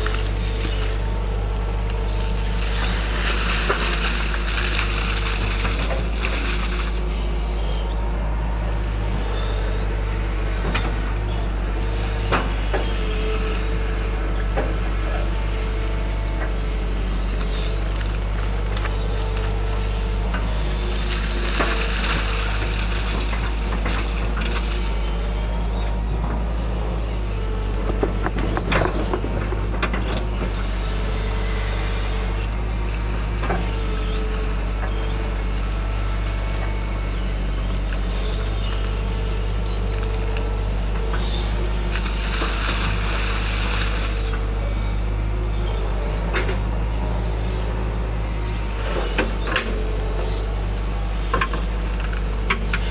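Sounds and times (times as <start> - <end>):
excavator diesel engine running: 0.0 - 52.9
hydraulic whine: 0.0 - 52.9.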